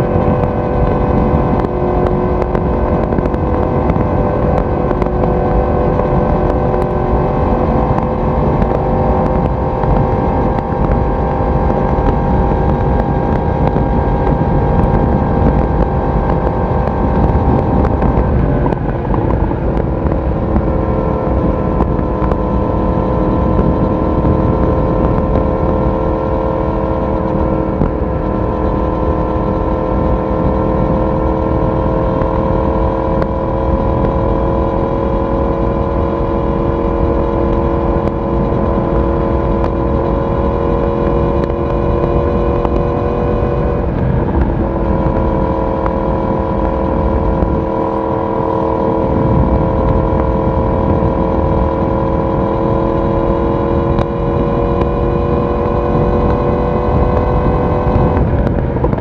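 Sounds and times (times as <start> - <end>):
motorcycle engine exhaust: 0.0 - 59.0
ride noise: 0.0 - 59.0.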